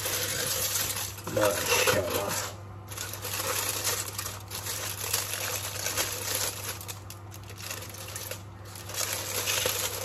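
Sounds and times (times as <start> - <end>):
kitchen foil crinkling: 0.0 - 10.0.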